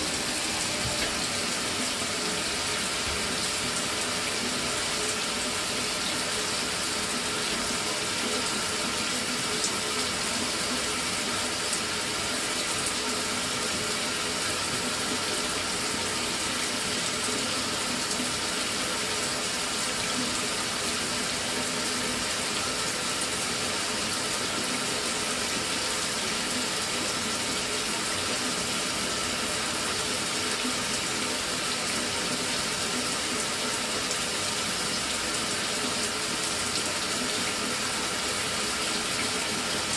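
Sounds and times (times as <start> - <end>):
shower spraying water: 0.0 - 39.9.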